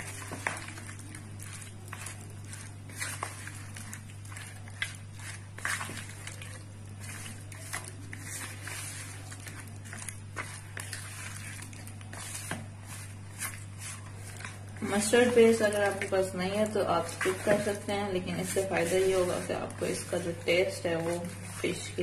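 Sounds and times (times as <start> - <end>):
spoon stirring wet marinade: 0.0 - 22.0
steady low hum: 0.0 - 22.0.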